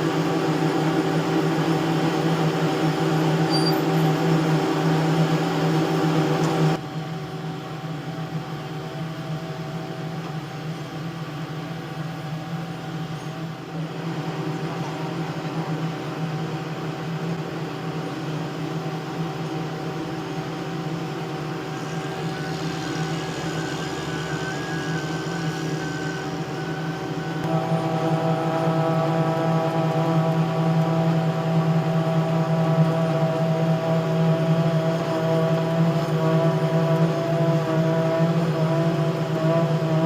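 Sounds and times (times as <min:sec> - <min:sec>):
heavy machinery engine drone: 0:00.0 - 0:40.0.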